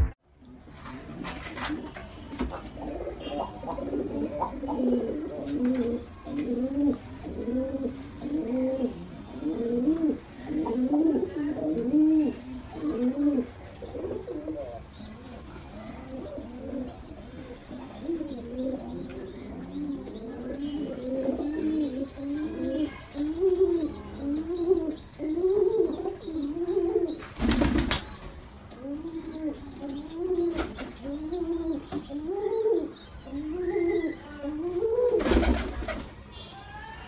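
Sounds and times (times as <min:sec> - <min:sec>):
baby pigeon peeping: 0:00.0 - 0:36.1
pigeons cooing: 0:02.5 - 0:28.0, 0:28.7 - 0:36.0.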